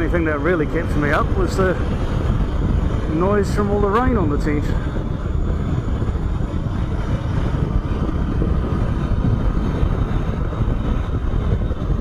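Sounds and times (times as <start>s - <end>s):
motorcycle road noise: 0.0s - 12.0s
wind buffeting microphone: 0.0s - 12.0s
wind rush: 0.0s - 12.0s.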